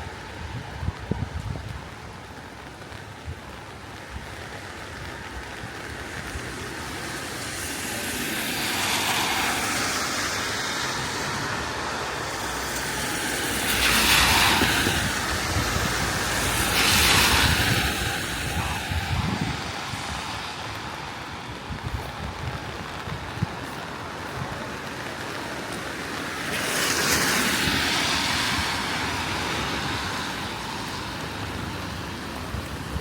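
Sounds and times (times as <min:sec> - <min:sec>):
low traffic rumble: 0:00.0 - 0:33.0
tyres hissing on wet road: 0:00.0 - 0:33.0.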